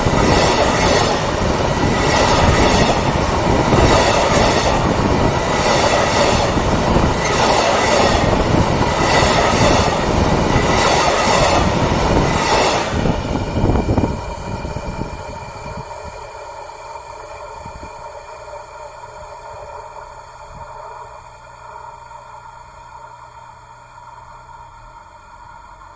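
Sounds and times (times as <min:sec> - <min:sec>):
train wheels clattering: 0:00.0 - 0:21.0
steady hum: 0:00.0 - 0:25.6.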